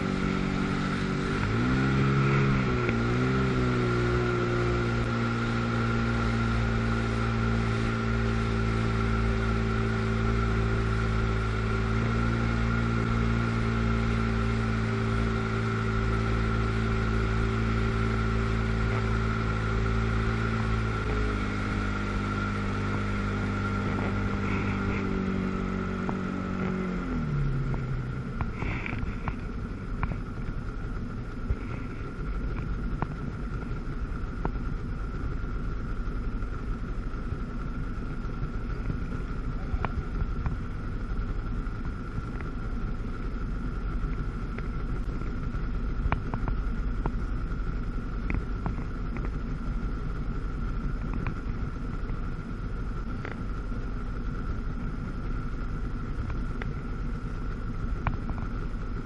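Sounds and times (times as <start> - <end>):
personal watercraft engine revving: 0.0 - 59.0
steady high whine: 0.0 - 59.0.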